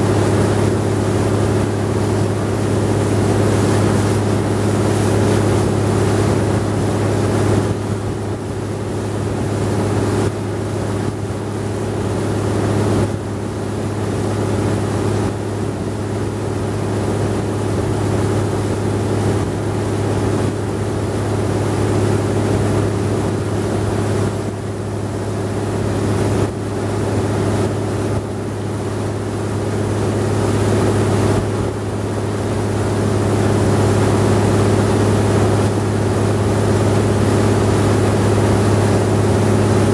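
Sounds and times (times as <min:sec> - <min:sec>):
boat engine running steadily: 0:00.0 - 0:39.9
water rushing past boat: 0:00.0 - 0:39.9.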